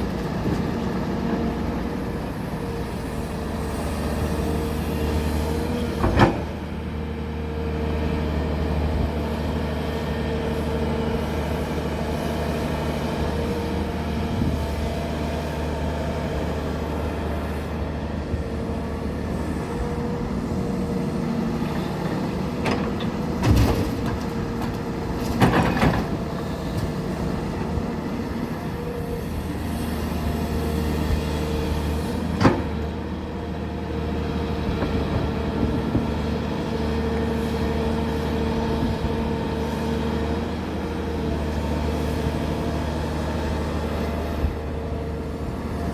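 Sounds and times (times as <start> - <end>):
heavy diesel engines running: 0.0 - 45.9.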